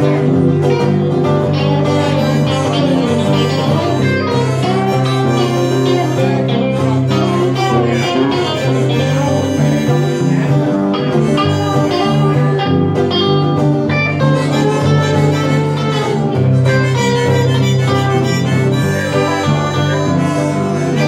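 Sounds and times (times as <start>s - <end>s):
electric and acoustic guitars: 0.0s - 21.0s
harmonica playing: 0.0s - 21.0s
low bass notes: 0.0s - 21.0s.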